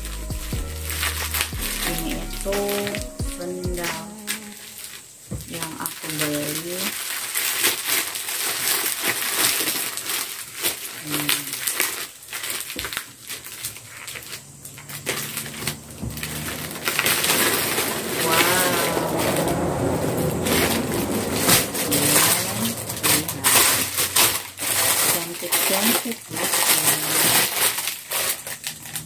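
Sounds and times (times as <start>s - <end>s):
plastic mailer bag crinkling: 0.0s - 29.0s
plastic wrapping rustling: 0.0s - 29.0s.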